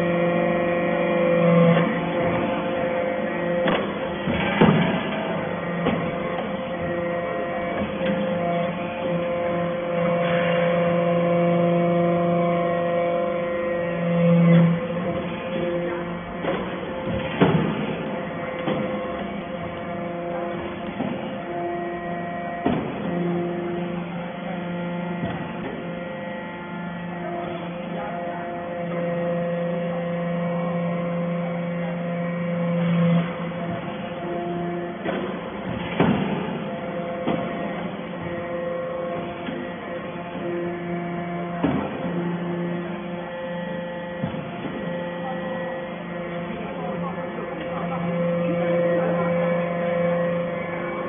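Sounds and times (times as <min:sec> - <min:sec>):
hydraulic pump hum: 0:00.0 - 0:51.0.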